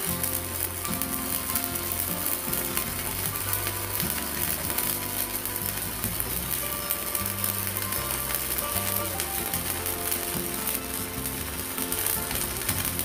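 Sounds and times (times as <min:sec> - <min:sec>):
background music: 0:00.0 - 0:13.0
welding arc crackling: 0:00.0 - 0:13.0.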